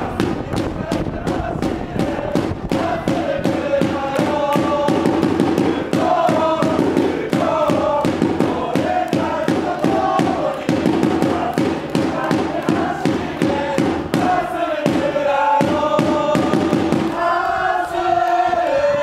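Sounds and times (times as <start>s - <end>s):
fast beat of sharp hits: 0.0s - 17.4s
supporters singing a chant: 0.0s - 19.0s.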